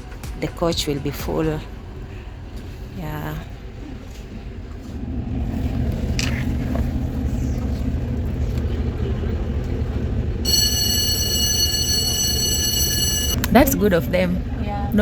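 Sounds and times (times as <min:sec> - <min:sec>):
train coach low rumble: 0:00.0 - 0:15.0.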